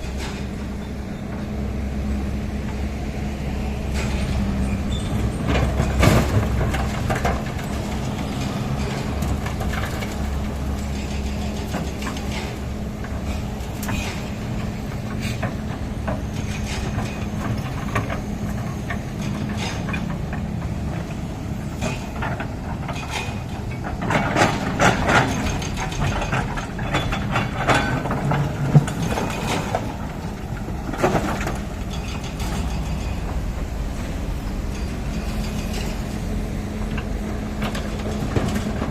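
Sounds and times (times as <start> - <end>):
excavator diesel engine running: 0.0 - 38.9
metallic clanks and knocks: 3.9 - 38.9.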